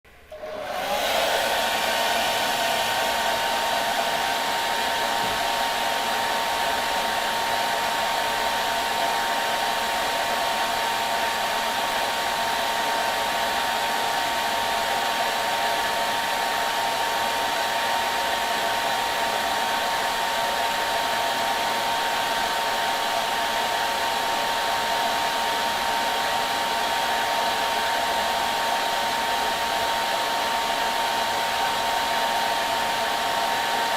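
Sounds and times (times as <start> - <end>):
hair dryer running: 0.2 - 33.9.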